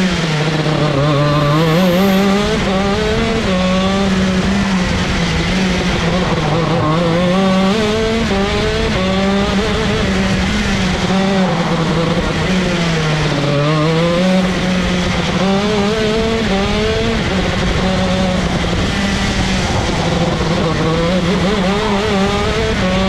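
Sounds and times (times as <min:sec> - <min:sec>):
kart engine revving: 0:00.0 - 0:23.0.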